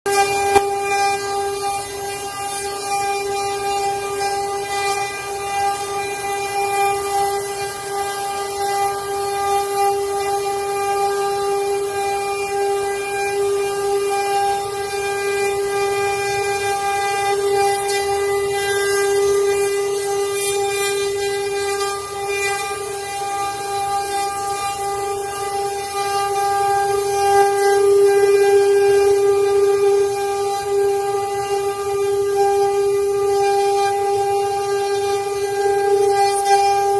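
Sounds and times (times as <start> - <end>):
router spindle motor whine: 0.0 - 36.9.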